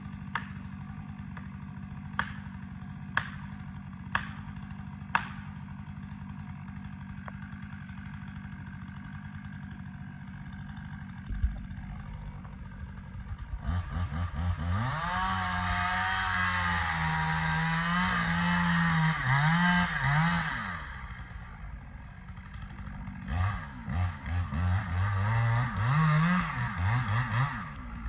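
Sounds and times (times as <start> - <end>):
chainsaw idling and revving: 0.0 - 28.0.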